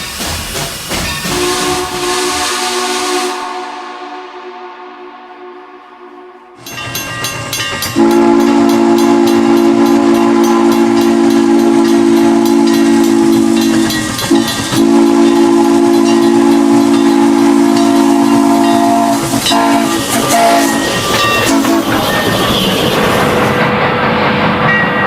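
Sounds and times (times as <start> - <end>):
moving train: 0.0 - 25.0
train whistle blasts: 1.3 - 6.6, 8.0 - 23.1.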